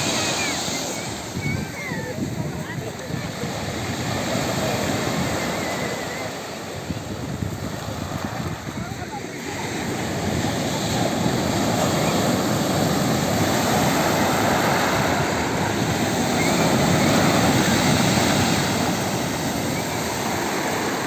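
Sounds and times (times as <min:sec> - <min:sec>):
waves breaking and washing: 0:00.0 - 0:21.0.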